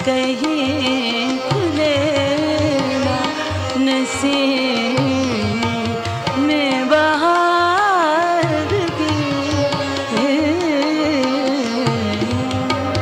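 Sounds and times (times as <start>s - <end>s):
tabla rhythm: 0.0s - 13.0s.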